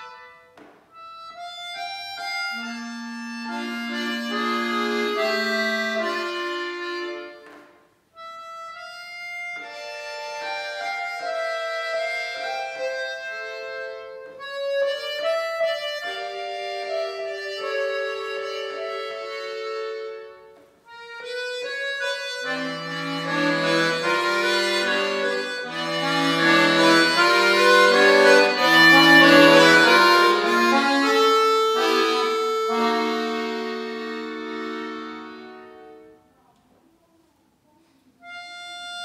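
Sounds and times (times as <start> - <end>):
accordion playing: 0.0 - 36.3, 38.1 - 39.0.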